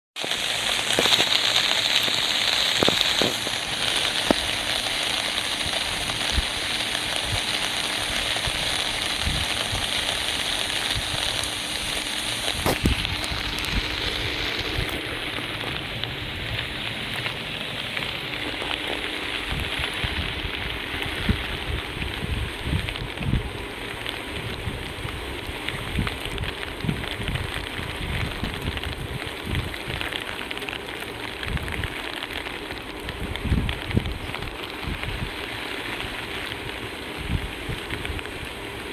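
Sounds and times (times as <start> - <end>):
steady rain falling: 0.2 - 38.9.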